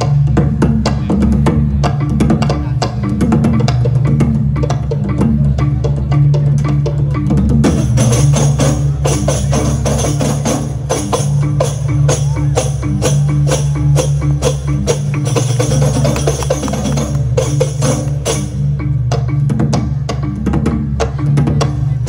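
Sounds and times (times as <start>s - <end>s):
fast metallic gamelan strikes: 0.0s - 22.0s.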